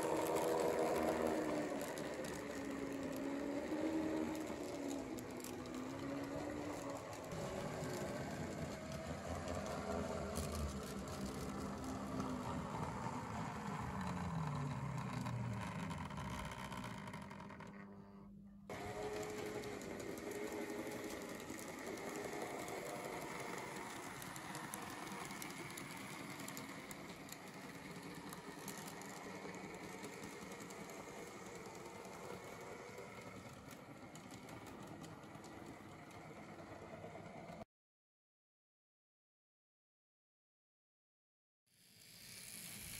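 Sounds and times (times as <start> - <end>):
model train motors whining: 0.0 - 37.6, 41.8 - 42.9.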